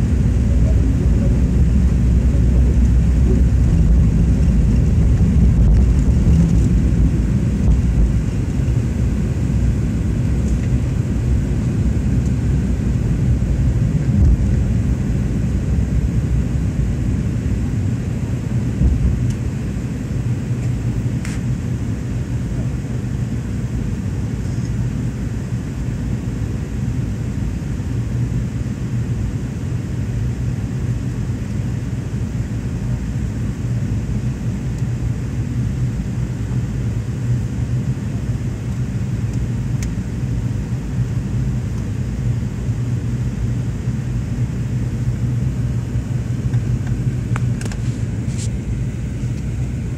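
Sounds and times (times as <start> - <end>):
deep takeoff roll rumble: 0.0 - 49.9
jet engines roaring: 0.0 - 49.9.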